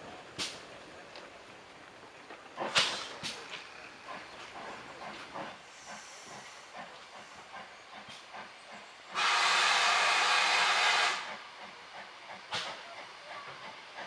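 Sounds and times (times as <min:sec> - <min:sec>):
steam locomotive hiss: 0:02.4 - 0:14.0.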